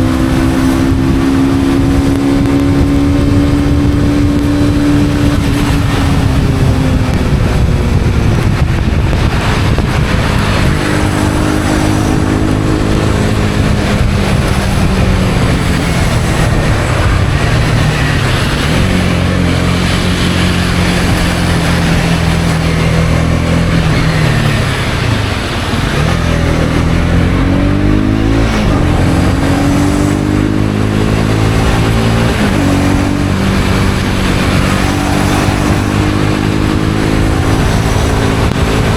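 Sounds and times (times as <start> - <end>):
motorcycle engine changing gears: 0.0 - 38.9.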